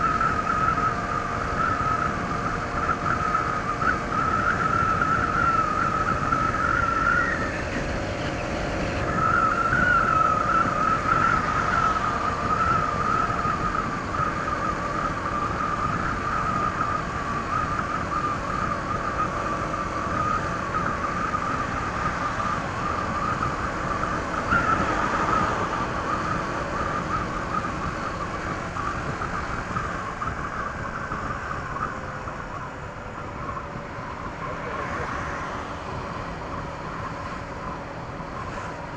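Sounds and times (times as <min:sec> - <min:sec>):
scooter engine whine: 0:00.0 - 0:38.9
wind and road rush: 0:00.0 - 0:38.9.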